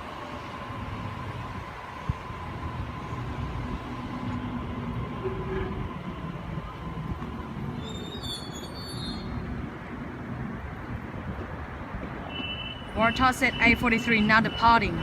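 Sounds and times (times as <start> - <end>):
electric train low rumble: 0.0 - 12.3.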